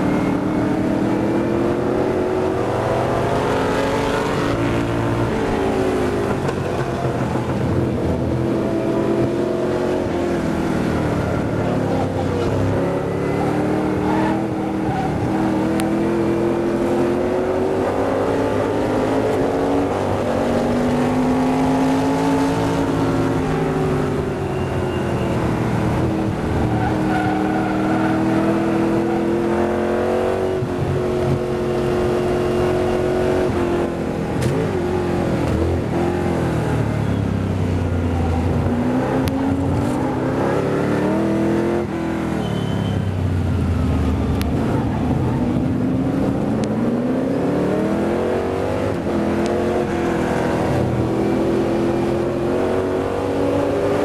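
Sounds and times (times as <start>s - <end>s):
racing car engine revving: 0.0s - 36.9s, 37.5s - 42.5s, 43.4s - 54.0s.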